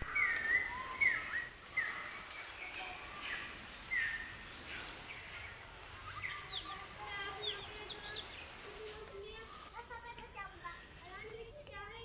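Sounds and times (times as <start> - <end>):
birds chirping: 0.0 - 12.0
steady background hiss: 0.0 - 12.0.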